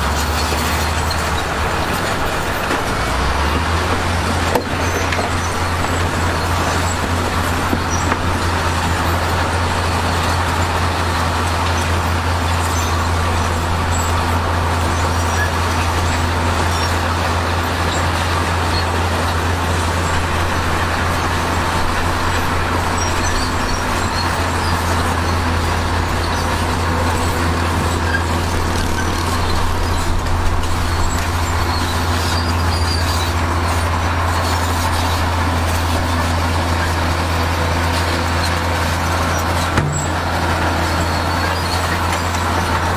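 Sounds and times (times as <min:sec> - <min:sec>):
diesel machinery engine drone: 0:00.0 - 0:42.9.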